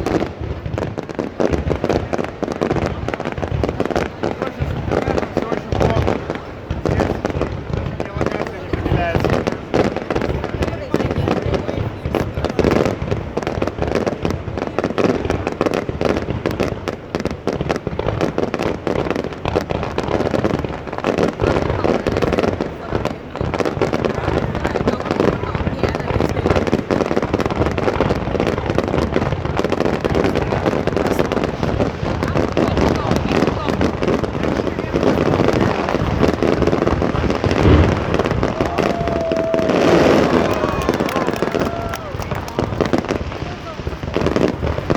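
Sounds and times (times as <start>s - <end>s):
fireworks and firecrackers banging: 0.0s - 44.9s.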